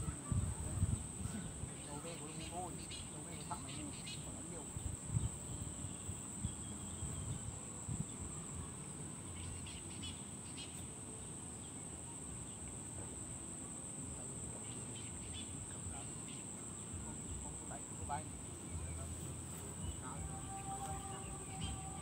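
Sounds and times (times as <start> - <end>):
insects shrilling drone: 0.0 - 22.0.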